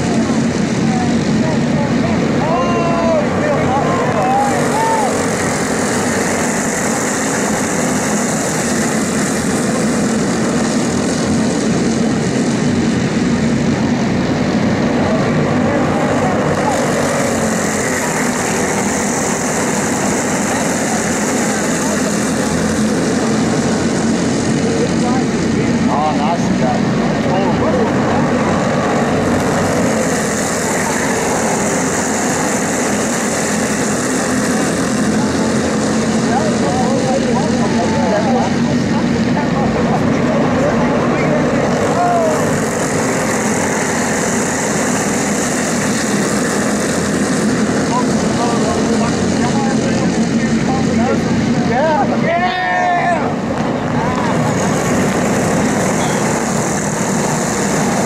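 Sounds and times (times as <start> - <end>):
go-kart engines buzzing: 0.0 - 58.0.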